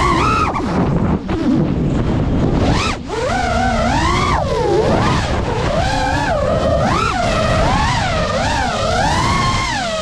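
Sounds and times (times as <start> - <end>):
drone motors whining: 0.0 - 10.0
wind buffeting microphone: 0.0 - 10.0.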